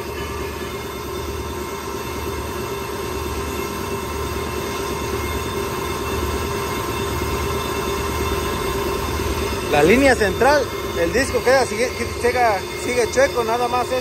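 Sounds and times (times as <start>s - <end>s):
metallic machining whine: 0.0s - 14.0s.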